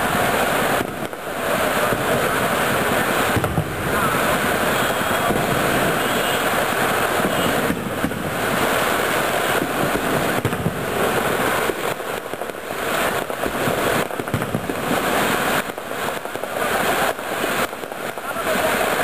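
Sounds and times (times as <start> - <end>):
fireworks banging and crackling: 0.0 - 19.0.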